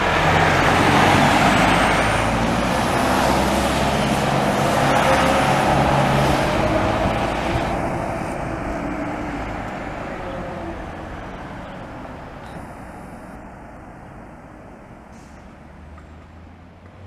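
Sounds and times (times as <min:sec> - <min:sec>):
diesel bus driving away: 0:00.0 - 0:17.0
road noise: 0:00.0 - 0:17.0.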